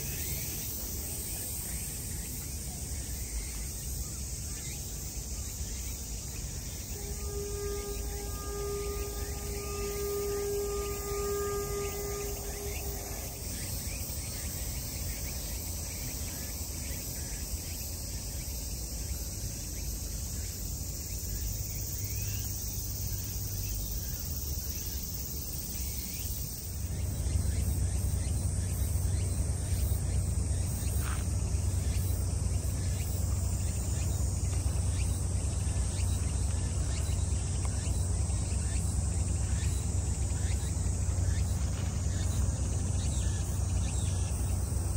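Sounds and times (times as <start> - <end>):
cicadas buzzing: 0.0 - 44.9.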